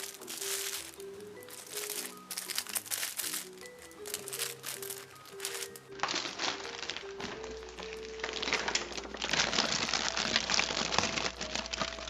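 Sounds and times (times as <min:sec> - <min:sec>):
background music simple melody: 0:00.0 - 0:12.0
dense crackling noise: 0:00.0 - 0:12.0.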